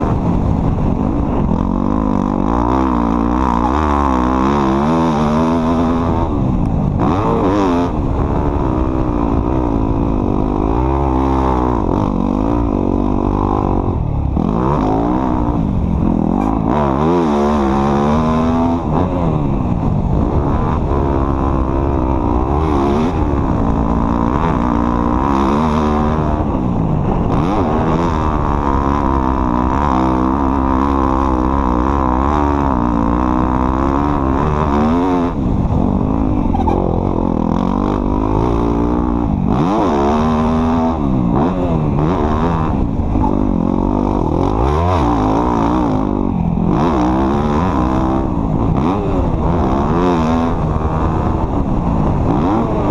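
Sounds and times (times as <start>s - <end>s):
off-road vehicle engine revving: 0.0s - 52.9s.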